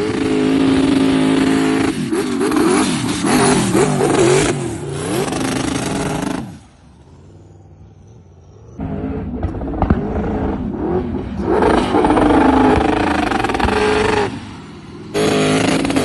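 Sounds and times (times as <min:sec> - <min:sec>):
suv engine revving: 0:00.0 - 0:07.6, 0:08.8 - 0:16.0.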